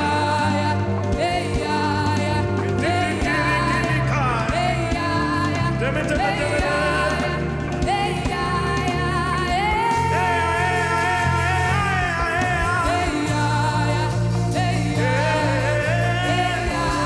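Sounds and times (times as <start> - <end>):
keyboard: 0.0 - 17.0
steady bass line: 0.0 - 17.0.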